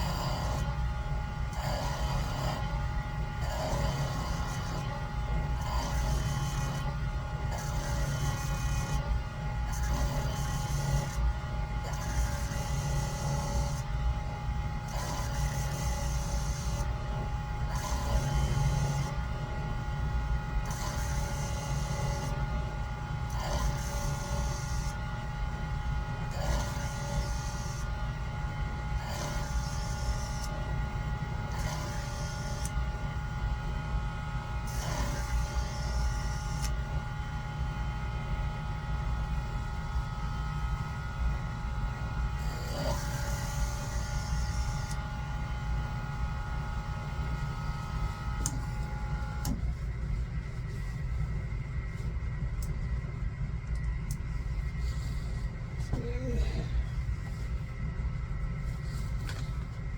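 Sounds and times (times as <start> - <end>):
motor hum: 0.0 - 59.9.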